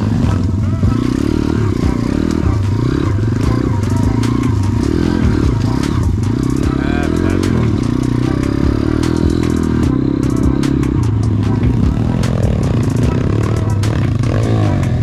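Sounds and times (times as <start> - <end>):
bike knocking and clicking: 0.0 - 15.0
pit bike engine revving: 0.0 - 15.0.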